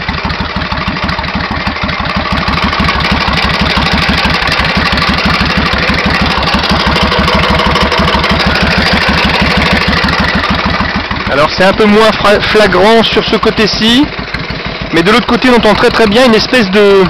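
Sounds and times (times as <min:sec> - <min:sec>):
metallic engine knocking: 0:00.0 - 0:17.0
motorcycle engine idling: 0:00.0 - 0:17.0.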